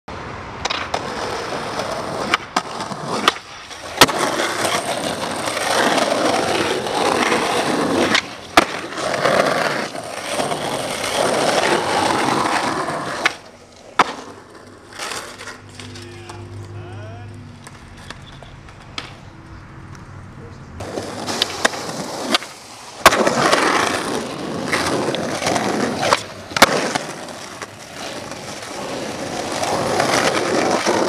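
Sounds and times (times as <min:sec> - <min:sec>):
skateboard wheels rolling on asphalt: 0:00.1 - 0:31.0
skateboard tail popping and landing: 0:00.6 - 0:16.0, 0:17.6 - 0:19.2, 0:20.8 - 0:31.0.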